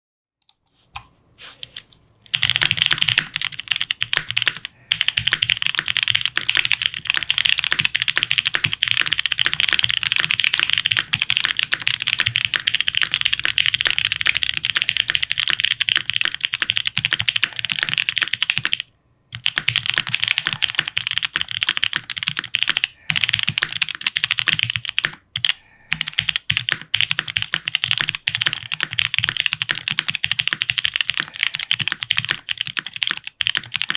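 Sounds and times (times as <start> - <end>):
mechanical keyboard typing: 1.6 - 33.9.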